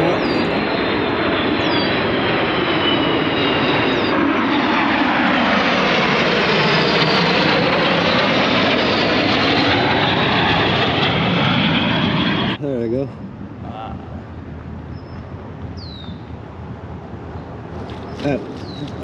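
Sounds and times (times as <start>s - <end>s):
airplane flying low overhead: 0.0s - 19.0s.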